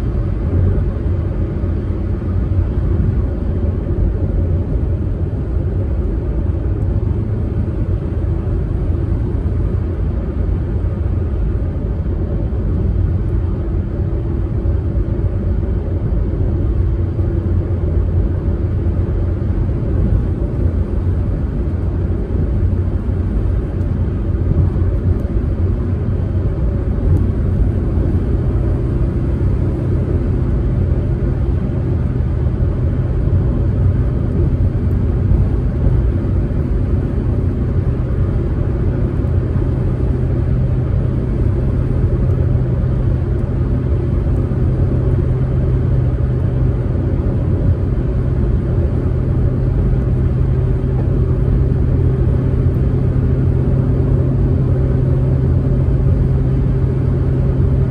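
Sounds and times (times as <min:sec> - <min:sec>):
car engine drone: 0:00.0 - 0:57.9
tyre and road noise: 0:00.0 - 0:57.9.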